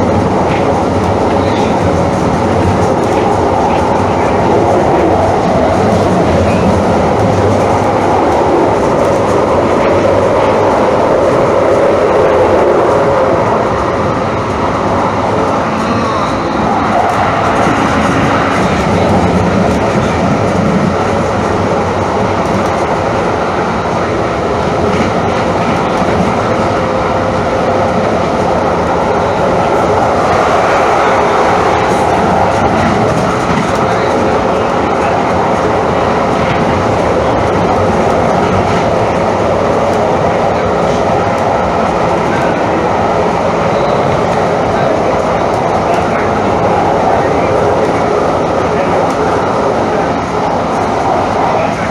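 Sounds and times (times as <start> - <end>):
light rail train rumbling: 0.0 - 51.9.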